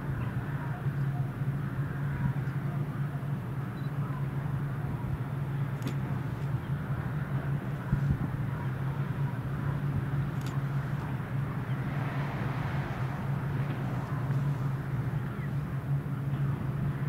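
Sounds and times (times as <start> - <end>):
rail noise: 0.0 - 17.0
train engine drone: 0.0 - 17.0.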